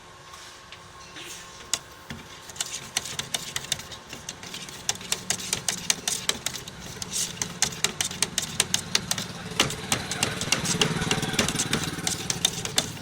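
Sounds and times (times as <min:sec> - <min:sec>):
rapid clicking and knocking: 0:01.7 - 0:13.0.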